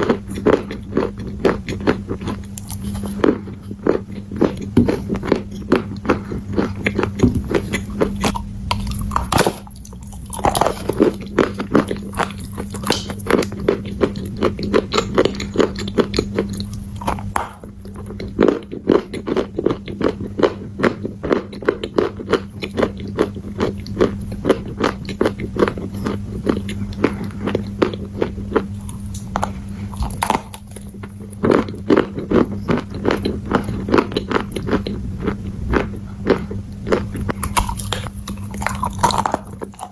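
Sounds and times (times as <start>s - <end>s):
crunching and chewing: 0.0s - 39.9s
steady low hum: 0.0s - 39.9s.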